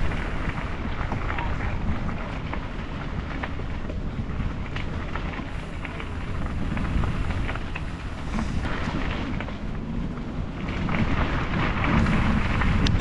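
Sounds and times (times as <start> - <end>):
small clicks and ticks: 0.0 - 9.6, 10.6 - 13.0
wind buffeting microphone: 0.0 - 13.0.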